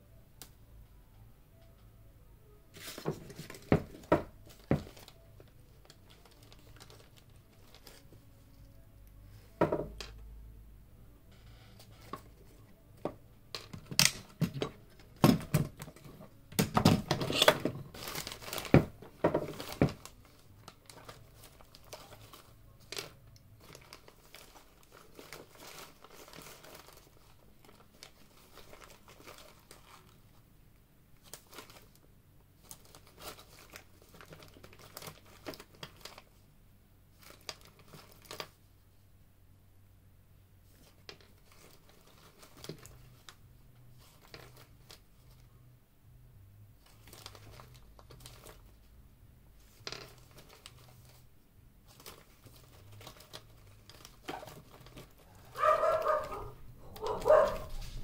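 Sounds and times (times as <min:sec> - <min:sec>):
crinkling and rustling: 0:02.7 - 0:10.3, 0:11.3 - 0:30.5, 0:31.2 - 0:36.5, 0:37.1 - 0:39.1, 0:40.6 - 0:45.7, 0:46.7 - 0:58.0.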